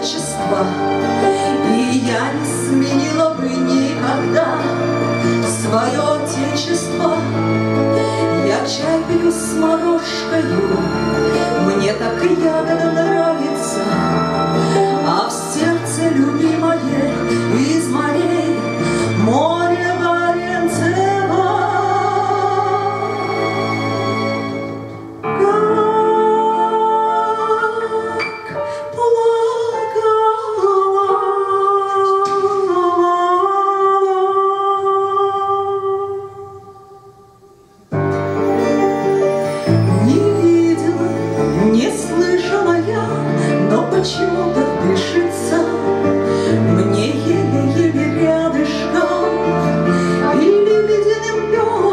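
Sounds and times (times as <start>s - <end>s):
woman singing into microphone: 0.0s - 7.4s, 8.2s - 14.1s, 14.7s - 23.1s, 25.2s - 37.4s, 39.9s - 51.9s
amplified backing music: 0.0s - 51.9s
instrumental accompaniment: 0.0s - 51.9s.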